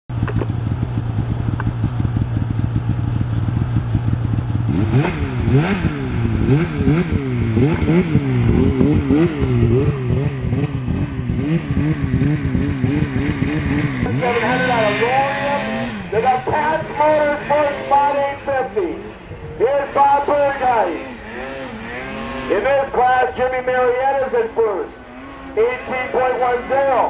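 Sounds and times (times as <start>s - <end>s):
snowmobile engine revving: 0.4s - 27.0s.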